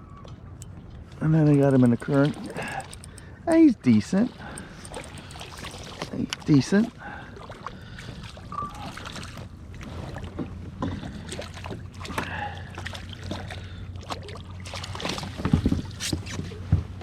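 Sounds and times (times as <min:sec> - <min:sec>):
water sloshing against kayak hull: 0:00.7 - 0:03.5, 0:04.1 - 0:17.0.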